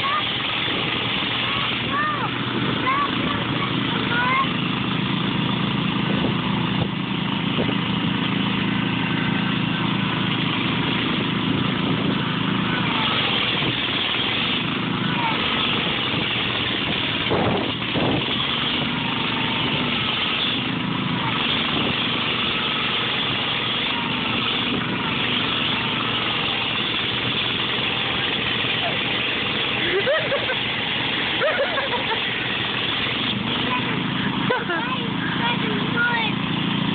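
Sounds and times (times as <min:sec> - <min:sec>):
garden tractor engines under load: 0:00.0 - 0:36.9.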